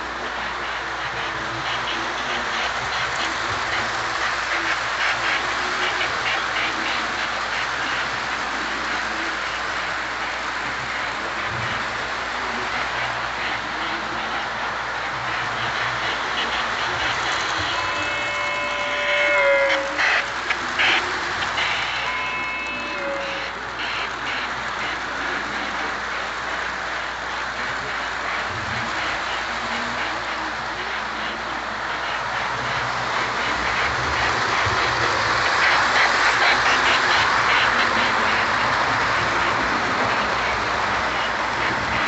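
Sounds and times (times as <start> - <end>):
electronic steam locomotive sound: 0.0 - 42.0
model train wheels rattling: 0.0 - 42.0.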